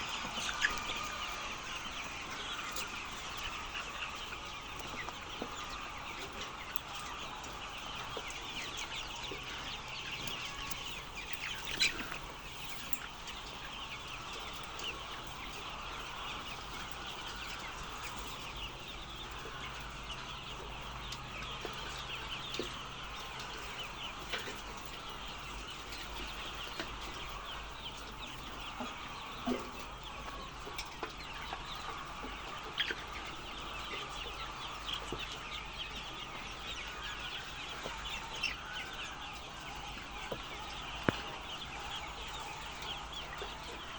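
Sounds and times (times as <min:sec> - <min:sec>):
chickens clucking and chirping: 0:00.0 - 0:43.9
loud chicken calls: 0:00.0 - 0:43.9.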